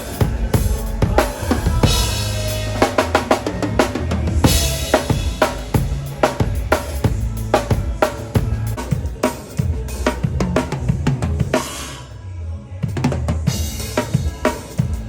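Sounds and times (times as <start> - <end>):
drum kit funk groove: 0.0 - 12.0, 12.9 - 15.0.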